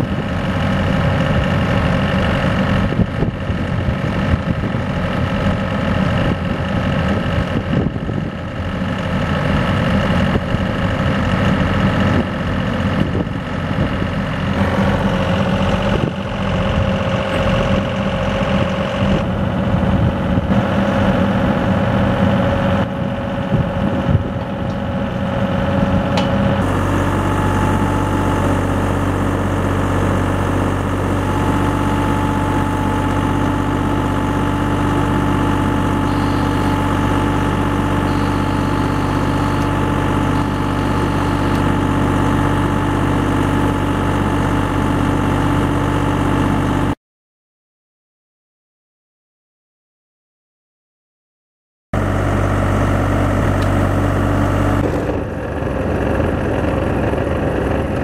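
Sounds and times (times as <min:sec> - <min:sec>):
excavator diesel engine running: 0:00.0 - 0:47.0, 0:52.0 - 0:58.0.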